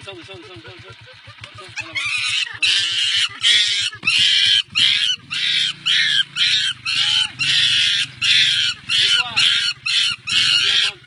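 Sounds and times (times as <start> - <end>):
bird squawking harshly: 1.6 - 11.0.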